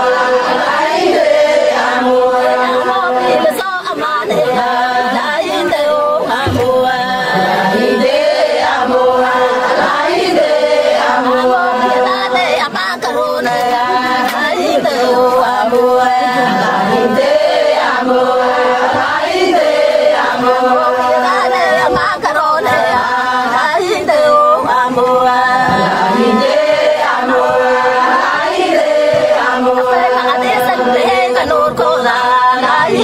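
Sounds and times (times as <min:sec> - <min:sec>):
voices singing: 0:00.0 - 0:33.0.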